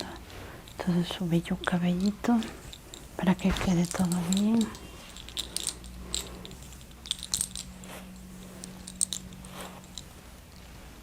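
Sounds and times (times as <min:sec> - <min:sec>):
hands massaging hair: 0:00.0 - 0:11.0.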